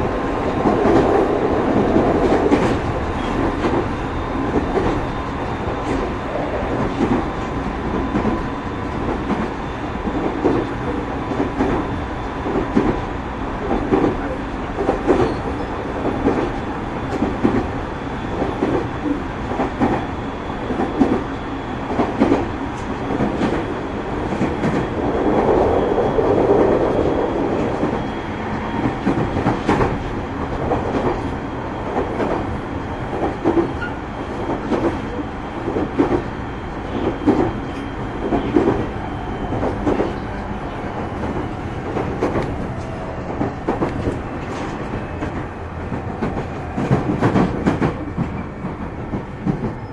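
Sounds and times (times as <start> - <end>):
electric train running rumble: 0.0 - 49.9.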